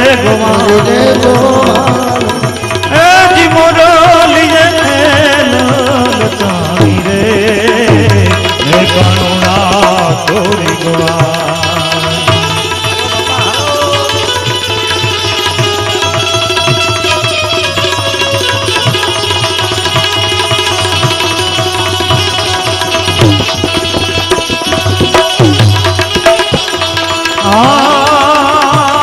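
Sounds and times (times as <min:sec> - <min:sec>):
hand drums rhythm: 0:00.0 - 0:29.0.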